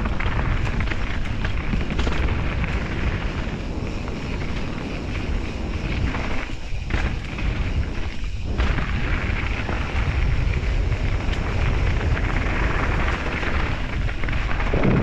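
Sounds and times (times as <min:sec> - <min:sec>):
bike rattling: 0:00.0 - 0:15.0
wind buffeting microphone: 0:00.0 - 0:15.0.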